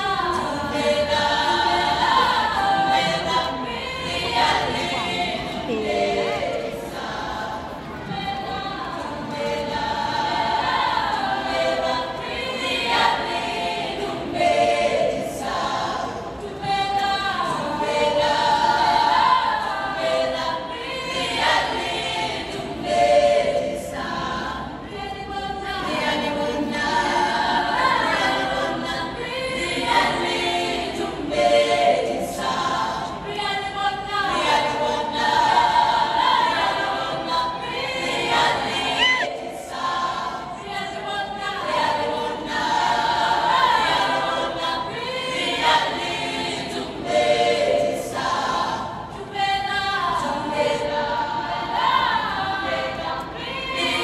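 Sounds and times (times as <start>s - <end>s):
choir singing in harmony: 0.0s - 54.0s.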